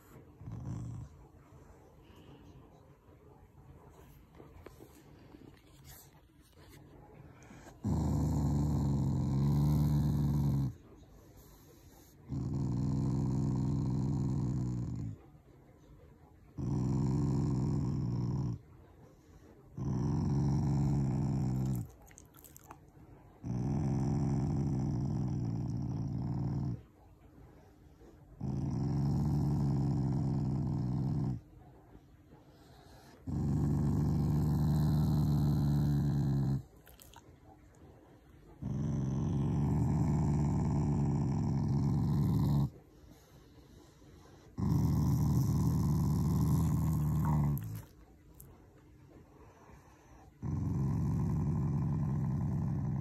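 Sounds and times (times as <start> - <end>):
dog growling low: 0.0 - 2.5, 4.8 - 15.3, 16.5 - 18.7, 19.7 - 27.0, 28.0 - 31.6, 32.3 - 48.5, 49.3 - 53.0.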